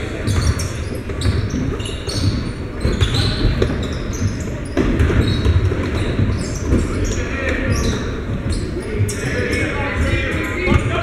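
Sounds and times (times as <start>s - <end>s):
players and spectators noise: 0.0s - 11.0s.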